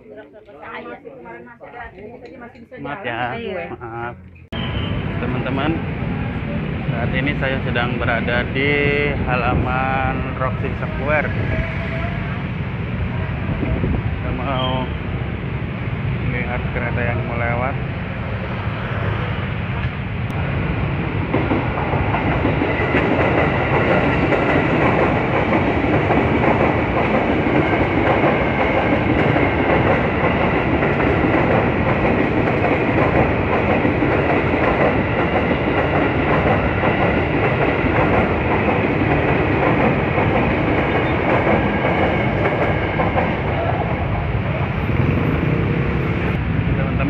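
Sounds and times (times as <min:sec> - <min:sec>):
electric train passing: 0:02.6 - 0:47.0.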